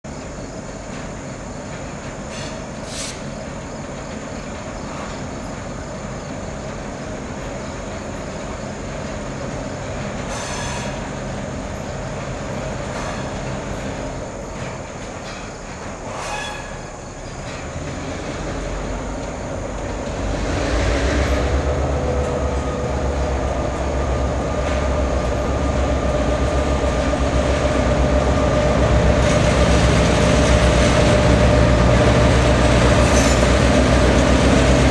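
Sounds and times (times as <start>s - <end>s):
train wheels squealing: 0.6s - 34.9s.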